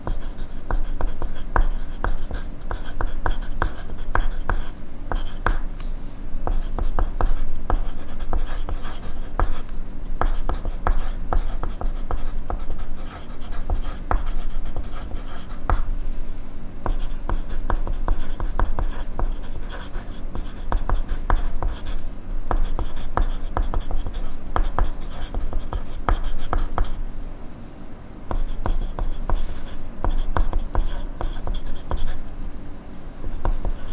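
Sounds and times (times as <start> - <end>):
pencil writing on paper: 0.0 - 5.7, 6.5 - 15.9, 16.8 - 27.0, 28.3 - 32.2, 33.2 - 33.9.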